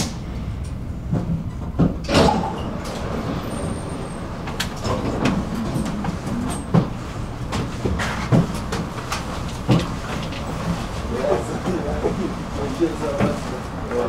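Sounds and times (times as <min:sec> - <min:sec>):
tram rumbling: 0:00.0 - 0:14.0
tram wheels knocking and clunking: 0:00.0 - 0:14.0.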